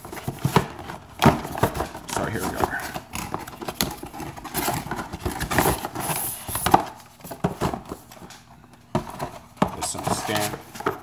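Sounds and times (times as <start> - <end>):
cardboard rustling: 0.0 - 11.0.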